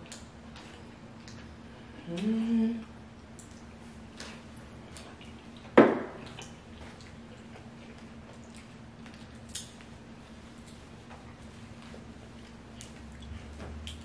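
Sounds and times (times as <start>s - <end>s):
shrimp being peeled and eaten: 0.0s - 14.0s.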